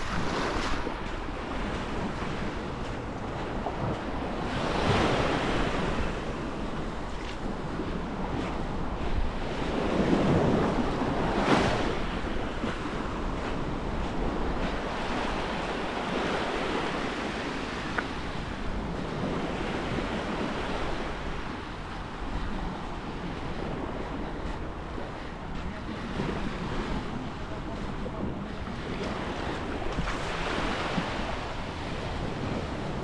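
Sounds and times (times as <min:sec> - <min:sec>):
sea surf breaking on beach: 0:00.0 - 0:33.0
wind rumbling on microphone: 0:00.0 - 0:33.0.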